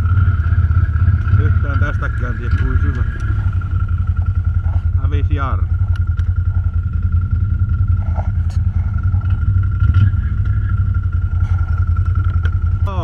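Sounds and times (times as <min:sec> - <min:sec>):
atv engine rumbling: 0:00.0 - 0:13.0.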